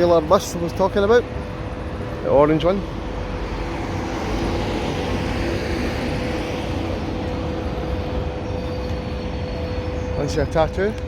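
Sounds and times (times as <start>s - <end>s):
street traffic rumbling: 0.0s - 11.0s.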